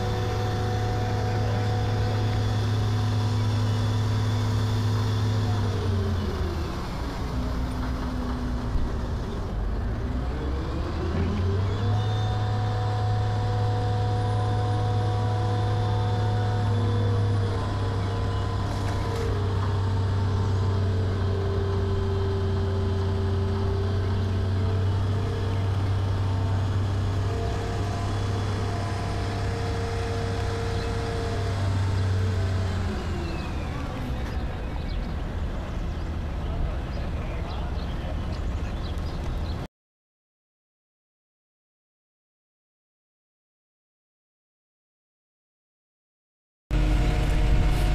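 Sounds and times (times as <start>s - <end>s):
crane engine running: 0.0s - 39.7s, 46.7s - 47.9s.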